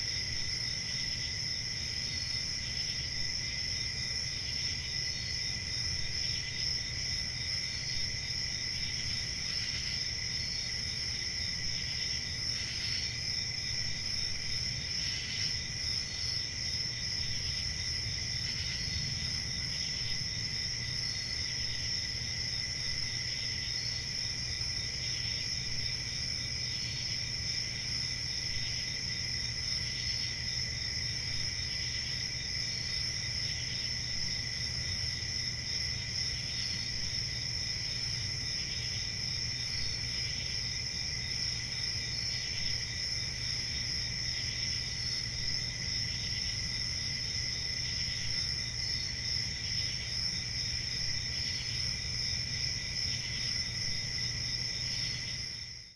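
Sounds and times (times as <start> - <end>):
crickets trilling: 0.0 - 55.9
individual cricket chirps: 0.0 - 55.9.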